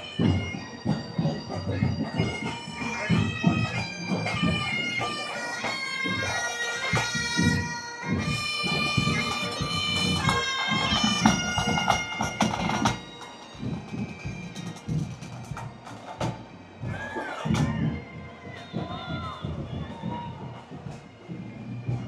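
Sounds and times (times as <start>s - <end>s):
bagpipes playing a tune: 0.0s - 18.9s
drums beating: 0.0s - 22.0s.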